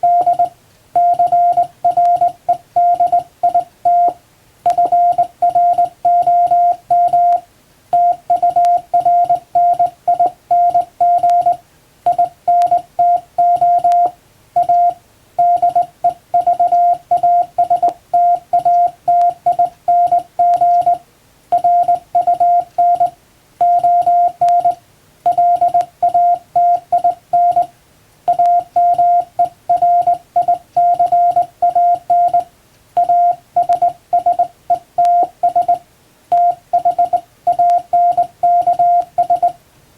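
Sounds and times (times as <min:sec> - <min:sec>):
morse code tone: 0:00.0 - 0:07.4, 0:08.0 - 0:27.7, 0:28.3 - 0:39.6.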